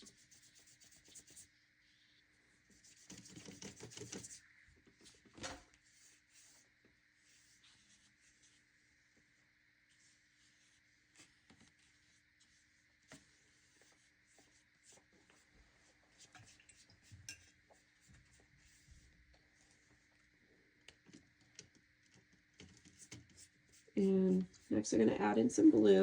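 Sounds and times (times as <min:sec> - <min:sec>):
paintbrush tapping and scraping paper: 0:00.0 - 0:01.4, 0:02.7 - 0:04.4, 0:05.0 - 0:09.3, 0:09.9 - 0:20.1, 0:20.9 - 0:24.7.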